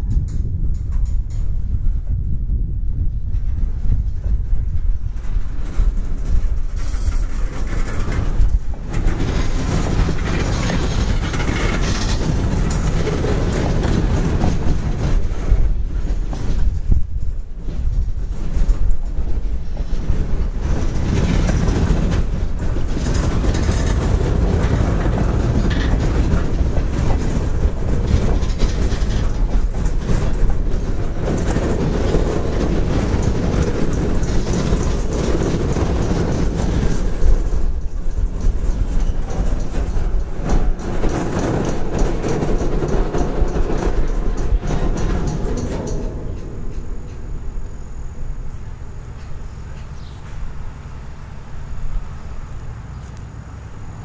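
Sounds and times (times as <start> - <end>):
steel wheels rumbling on rail: 0.0 - 54.0
wheels clicking over rail joints: 0.0 - 54.0.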